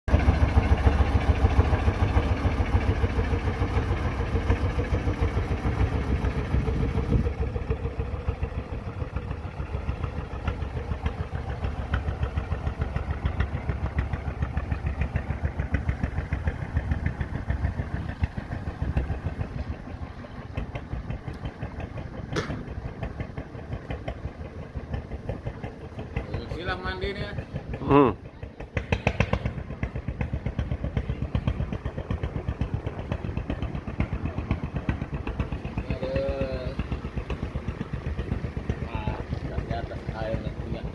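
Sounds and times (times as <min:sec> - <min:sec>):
boat engine running: 0:00.1 - 0:40.9.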